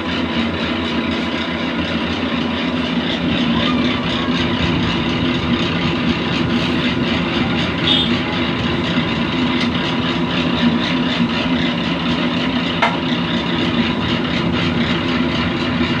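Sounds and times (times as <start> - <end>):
machinery humming and rattling: 0.0 - 16.0.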